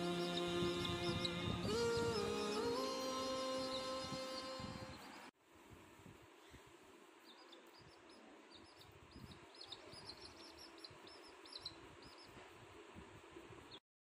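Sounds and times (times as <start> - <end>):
small birds chirping: 0.0 - 5.3, 6.4 - 12.5
low room hiss: 0.0 - 13.8.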